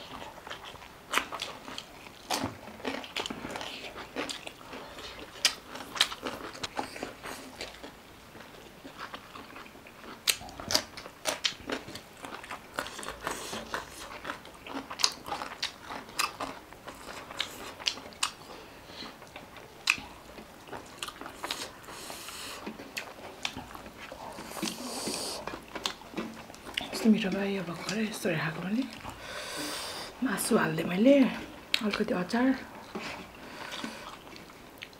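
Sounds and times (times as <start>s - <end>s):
crunching and chewing food: 0.0s - 34.9s.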